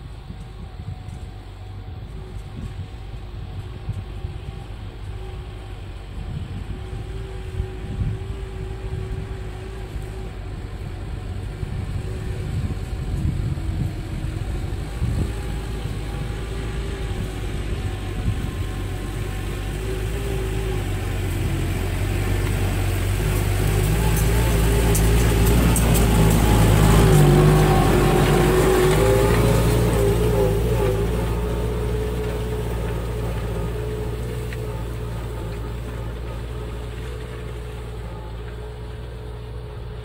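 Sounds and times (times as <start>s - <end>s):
tractor diesel engine passing: 0.0s - 40.0s.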